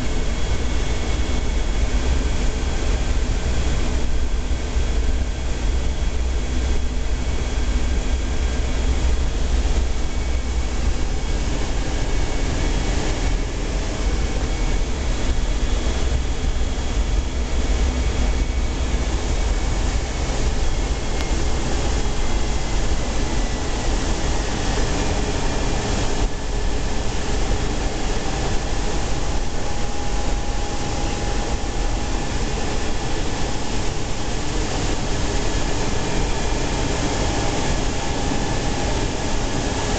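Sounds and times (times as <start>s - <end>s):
faint steady whining tones: 0.0s - 39.9s
jet engines rumbling: 0.0s - 39.9s.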